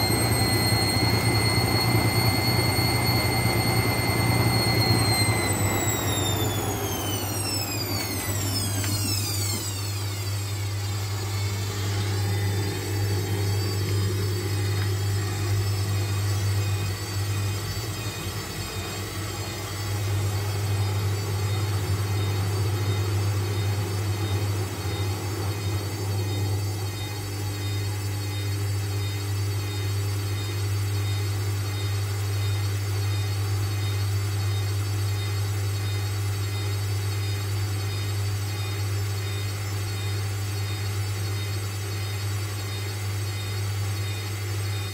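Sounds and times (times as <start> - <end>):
washing machine humming: 0.0 - 44.9.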